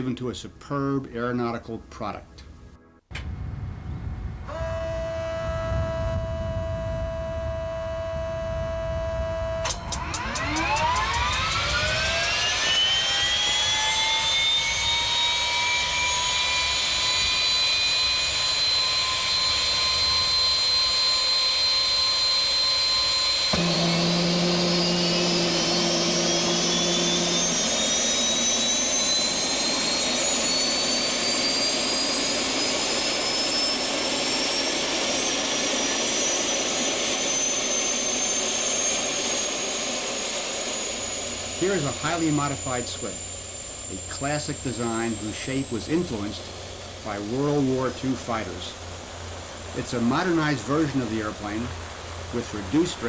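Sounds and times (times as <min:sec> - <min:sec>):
low hum: 0:02.4 - 0:53.0
turbine engine whining: 0:03.1 - 0:53.0.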